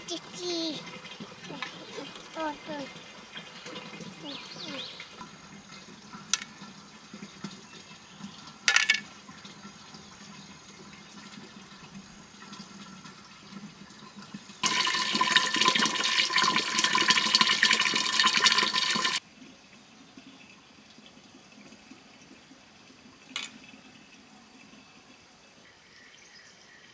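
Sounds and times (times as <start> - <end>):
water pouring into metal pot: 0.1 - 25.2.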